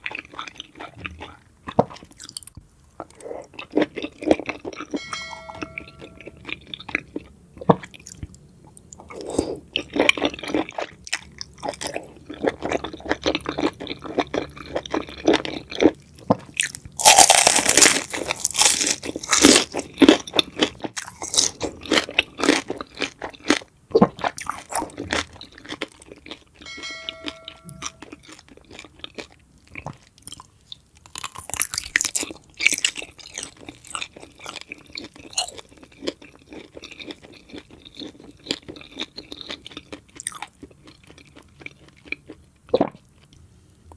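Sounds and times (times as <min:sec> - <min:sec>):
crunchy food chewing: 0:00.0 - 0:05.0, 0:06.4 - 0:26.7, 0:28.1 - 0:43.4.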